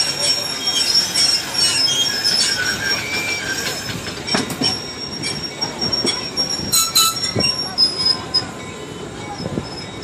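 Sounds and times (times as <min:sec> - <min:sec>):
wheel flange squeal: 0:00.0 - 0:08.6
train rolling on steel wheels: 0:00.0 - 0:10.0
wheels clicking over rail joints: 0:00.2 - 0:08.6.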